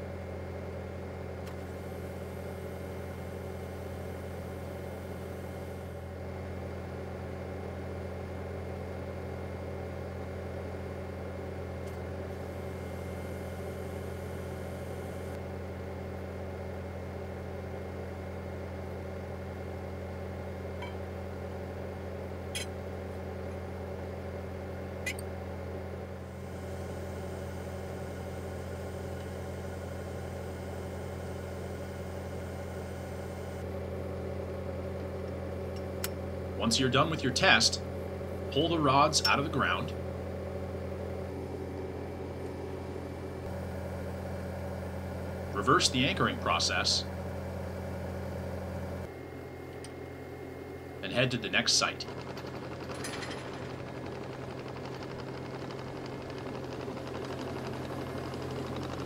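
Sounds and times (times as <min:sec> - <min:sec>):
loader diesel engine running: 0:01.5 - 0:59.0.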